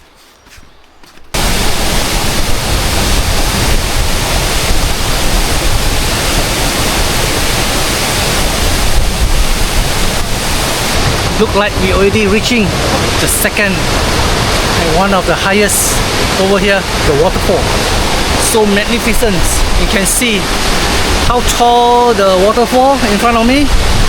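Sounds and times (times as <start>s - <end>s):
waterfall roaring: 1.4s - 24.0s.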